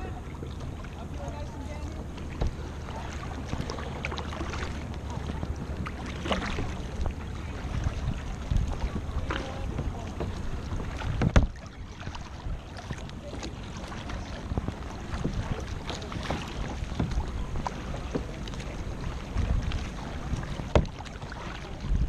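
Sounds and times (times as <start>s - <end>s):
paddle splashing: 0.0s - 22.0s
water lapping at hull: 0.0s - 22.0s
wind buffeting microphone: 0.0s - 22.0s.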